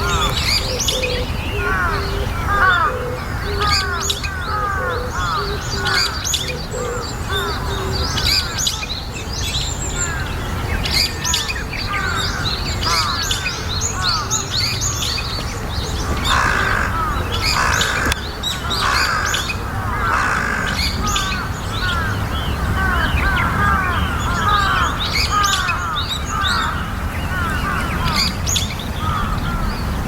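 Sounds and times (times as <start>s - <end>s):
birds chirping and whistling: 0.0s - 30.0s.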